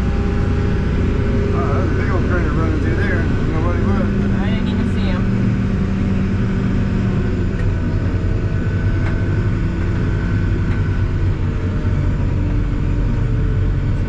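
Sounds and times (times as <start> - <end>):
diesel engine running in cab: 0.0 - 14.0.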